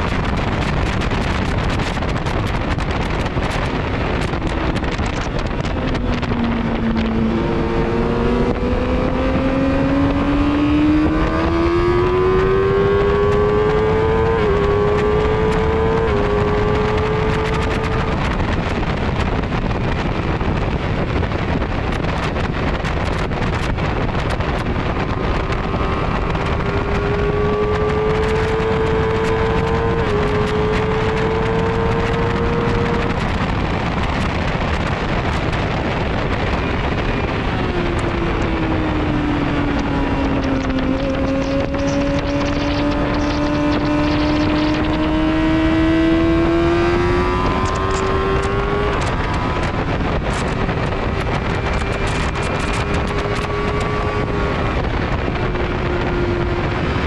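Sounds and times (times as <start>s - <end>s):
race car engine revving: 0.0s - 57.0s
wind rush over microphone: 0.0s - 57.0s.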